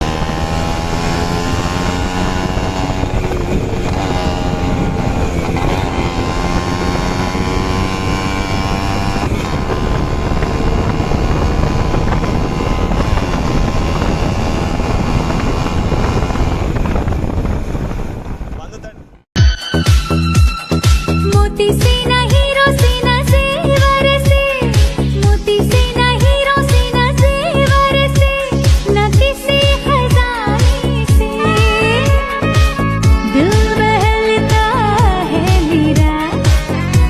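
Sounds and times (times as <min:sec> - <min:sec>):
two-stroke motorcycle engine revving: 0:00.0 - 0:18.6, 0:21.7 - 0:37.0.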